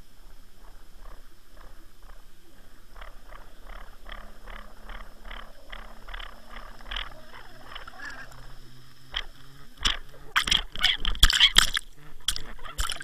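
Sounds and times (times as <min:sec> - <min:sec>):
low underwater throb: 0:00.0 - 0:11.2
rhythmic underwater knocking: 0:00.0 - 0:13.0.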